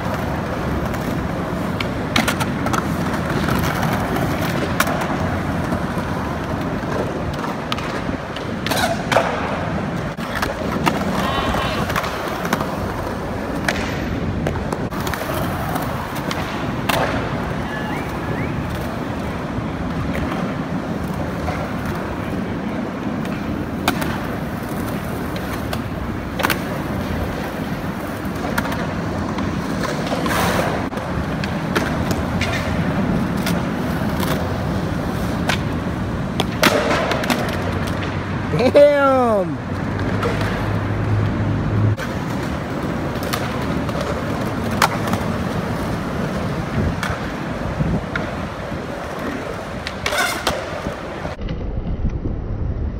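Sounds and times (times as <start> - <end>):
skateboard clacking on coping: 0.0 - 41.4, 42.0 - 51.4
skateboard wheels rolling on concrete: 0.0 - 52.9.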